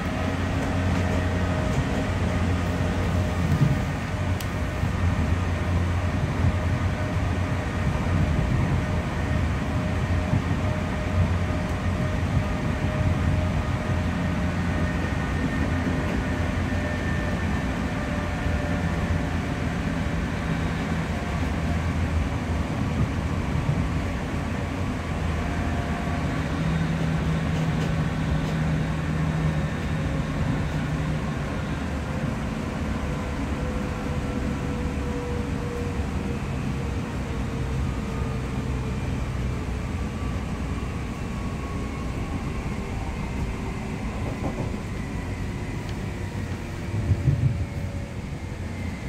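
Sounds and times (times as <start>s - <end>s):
train traction motors whining: 0.0s - 49.0s
wheel and rail rumble: 0.0s - 49.0s.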